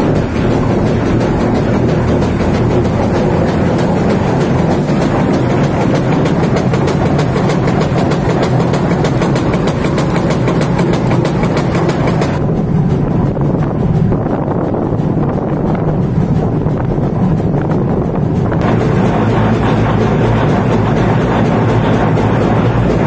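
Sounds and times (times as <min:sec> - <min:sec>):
milling machinery rumble: 0:00.0 - 0:23.0
rapid machinery clatter: 0:00.0 - 0:23.0.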